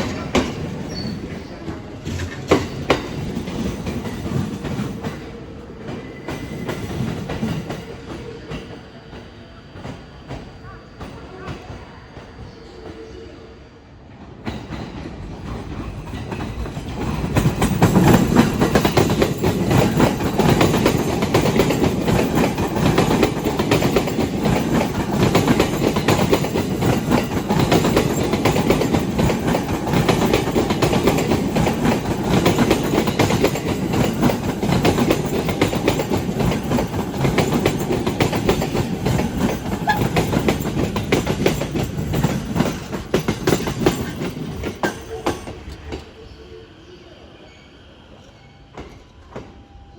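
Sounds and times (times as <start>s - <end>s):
train wheels clattering: 0.0s - 9.2s, 14.4s - 46.1s.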